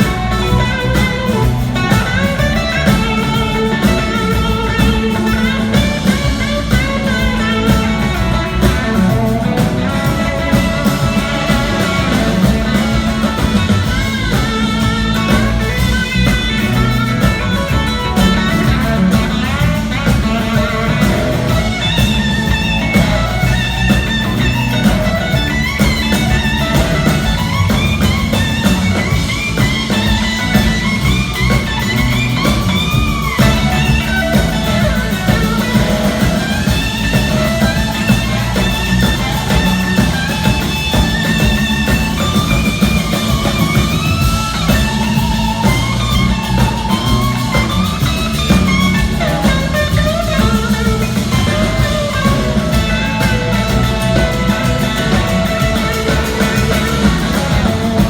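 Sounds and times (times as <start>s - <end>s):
bass and drums: 0.0s - 58.0s
electric guitar bending notes: 0.0s - 58.0s.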